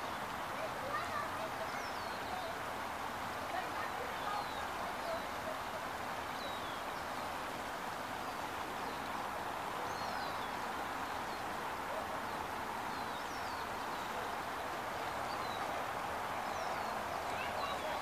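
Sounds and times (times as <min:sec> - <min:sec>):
small birds chirping: 0:00.0 - 0:02.6, 0:03.6 - 0:18.0
outdoor background noise: 0:00.0 - 0:18.0.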